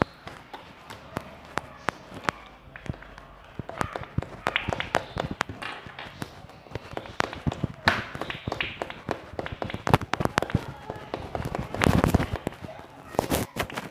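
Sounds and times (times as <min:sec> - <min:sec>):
slime clicking and popping: 0:00.0 - 0:12.5.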